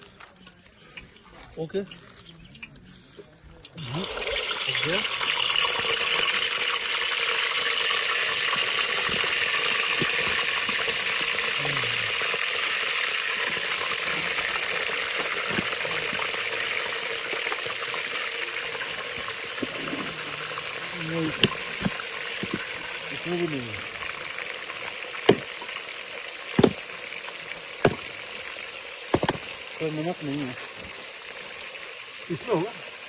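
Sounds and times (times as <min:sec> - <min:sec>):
meat sizzling in hot fat: 0:03.8 - 0:33.0.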